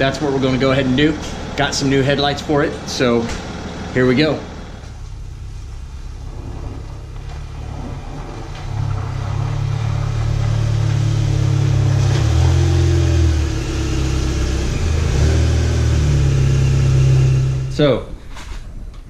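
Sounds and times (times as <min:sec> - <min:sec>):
car engine at low speed: 0:00.0 - 0:18.5.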